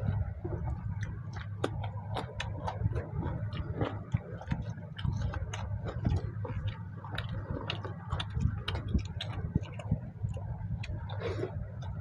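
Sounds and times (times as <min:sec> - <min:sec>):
low steady hum: 0:00.0 - 0:12.0
wet eating sounds: 0:00.0 - 0:12.0.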